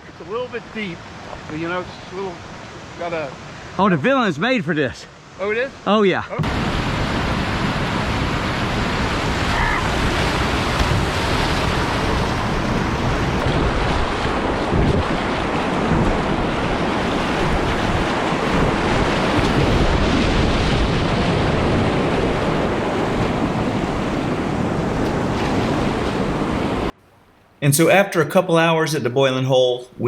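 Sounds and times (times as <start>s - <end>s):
whitewater rushing: 0.2s - 26.9s.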